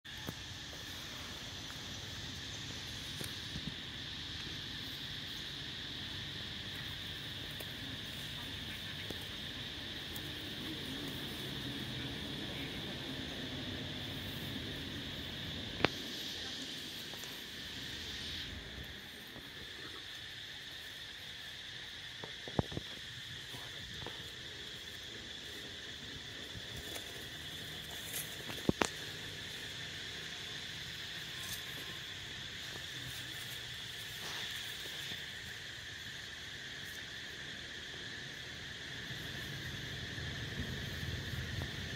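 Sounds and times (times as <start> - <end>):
insect chorus drone: 0.0 - 41.9.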